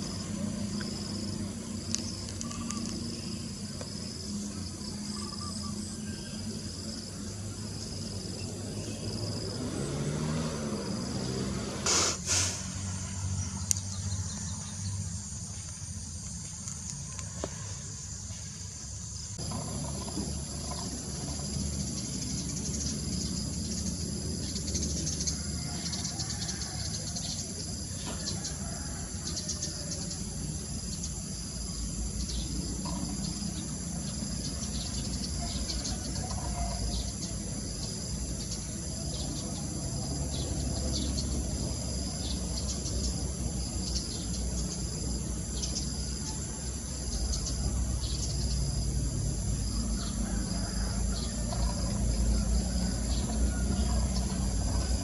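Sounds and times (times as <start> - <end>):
insects buzzing and shrilling: 0.0 - 55.0.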